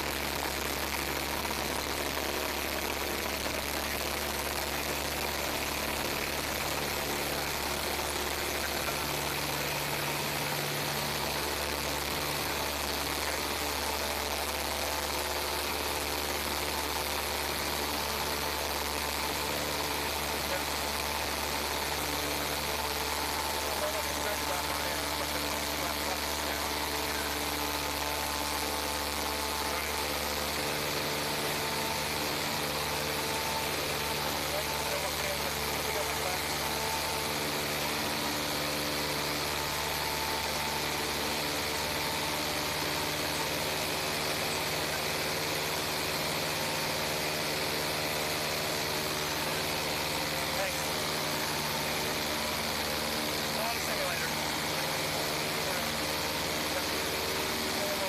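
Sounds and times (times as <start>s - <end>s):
airplane engine drone: 0.0s - 58.0s.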